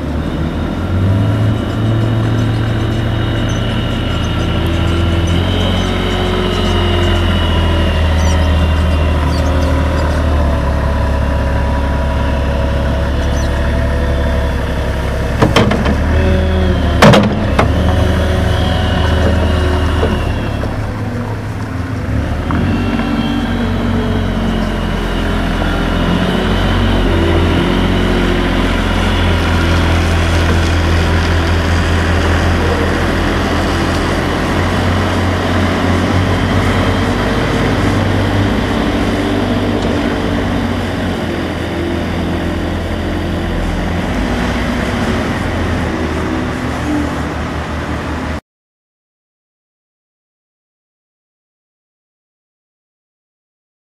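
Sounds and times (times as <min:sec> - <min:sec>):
diesel engine running and revving: 0:00.0 - 0:48.4.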